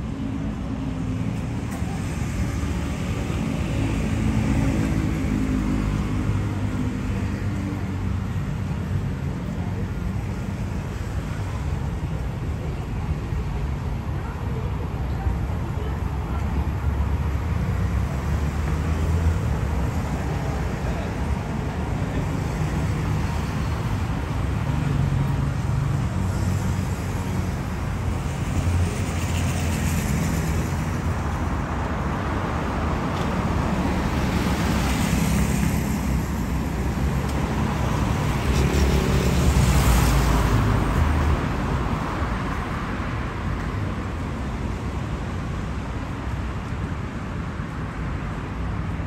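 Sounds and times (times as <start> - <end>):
road traffic rumble: 0.0 - 49.0
vehicles passing: 0.0 - 49.0.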